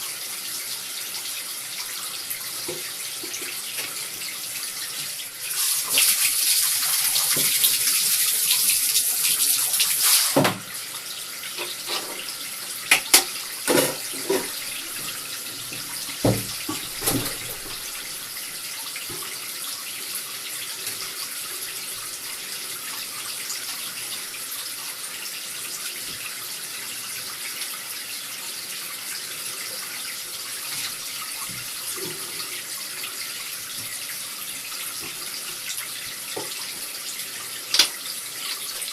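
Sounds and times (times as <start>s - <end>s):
running tap water: 0.0s - 38.9s.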